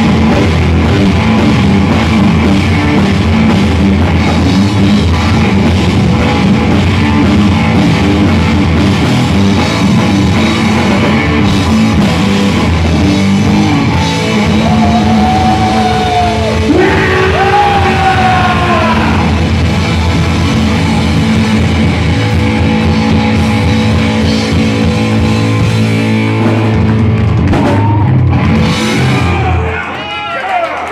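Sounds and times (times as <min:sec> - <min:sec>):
hard rock band playing: 0:00.0 - 0:30.4.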